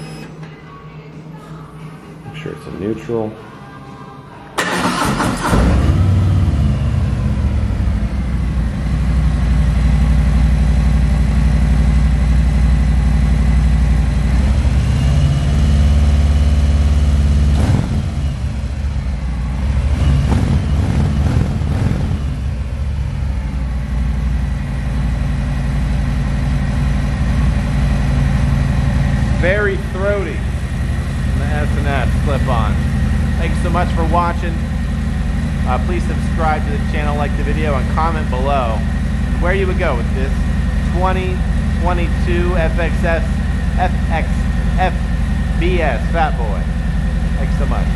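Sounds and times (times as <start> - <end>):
motorcycle engine idling and revving: 4.6 - 47.9.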